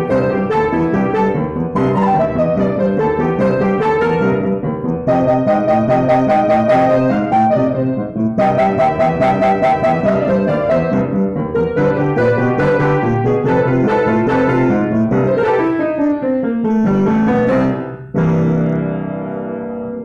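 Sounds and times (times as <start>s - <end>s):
boogie-woogie piano: 0.0s - 20.0s.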